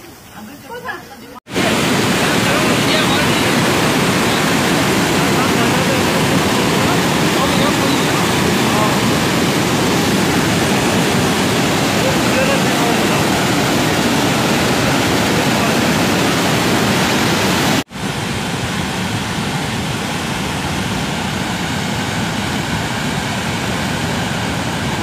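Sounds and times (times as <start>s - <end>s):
flood water rushing: 1.5s - 25.0s.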